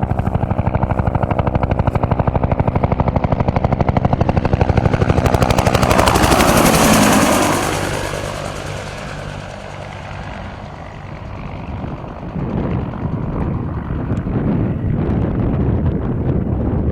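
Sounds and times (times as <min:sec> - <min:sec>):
helicopter rotor chopping: 0:00.0 - 0:16.9.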